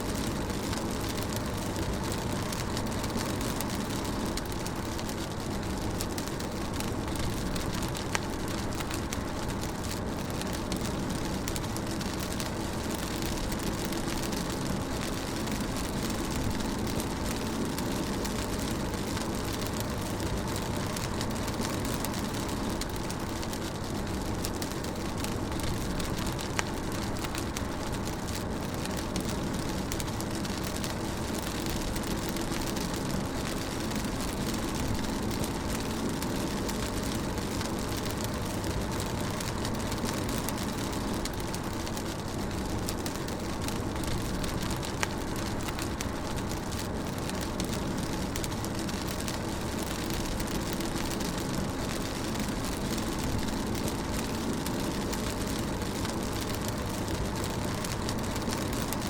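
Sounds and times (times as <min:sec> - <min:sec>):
rain hissing on car: 0:00.0 - 0:59.0
raindrop ticks: 0:00.0 - 0:59.0.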